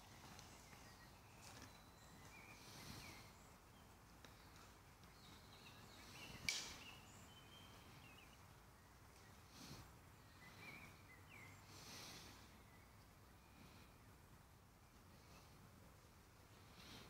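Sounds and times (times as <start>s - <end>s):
distant bird chirps: 0.0s - 14.3s.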